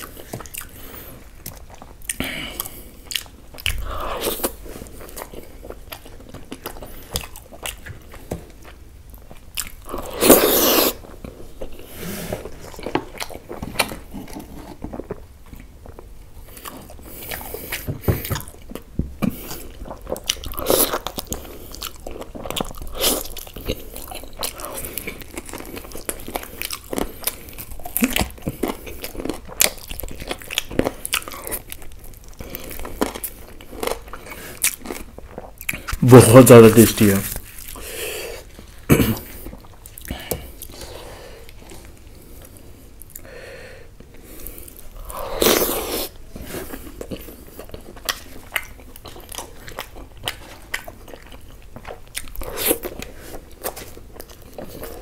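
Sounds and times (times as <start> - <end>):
chewing and mouth smacks: 0.0 - 11.8, 12.6 - 36.0, 44.1 - 55.0.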